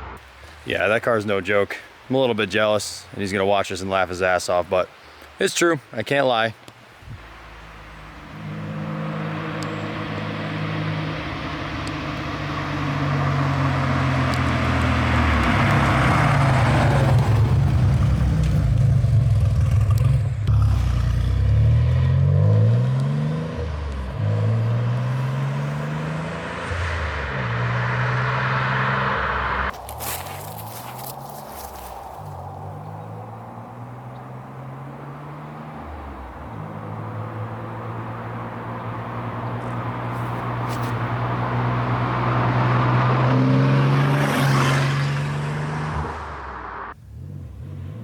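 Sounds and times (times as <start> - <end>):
car engine revving: 7.2 - 48.0.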